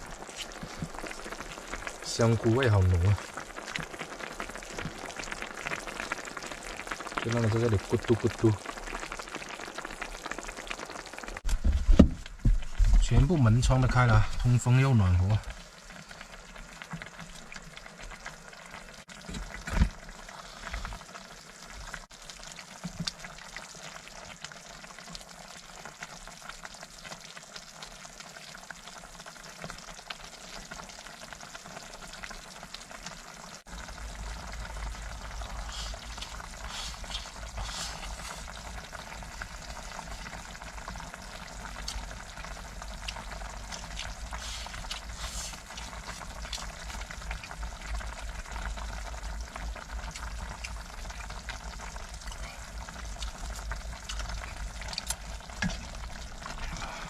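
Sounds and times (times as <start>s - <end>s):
stew bubbling in a pot: 0.0s - 57.0s.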